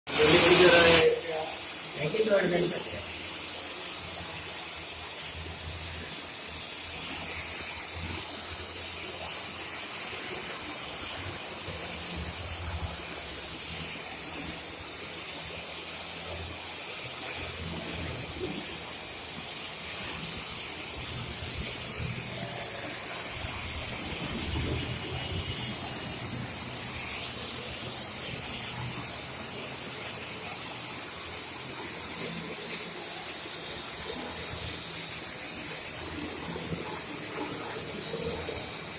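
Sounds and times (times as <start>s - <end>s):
gas torch flame hissing: 0.1s - 38.9s.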